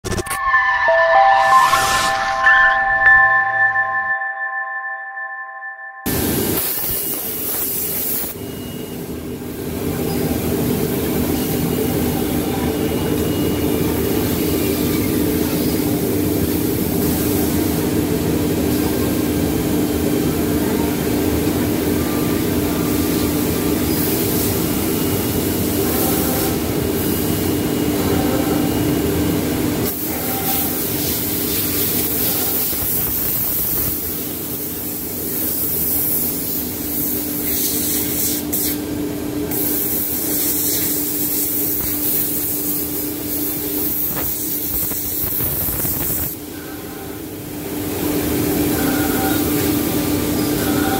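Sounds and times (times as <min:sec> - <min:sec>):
machine drone with hiss: 0:06.1 - 0:50.9.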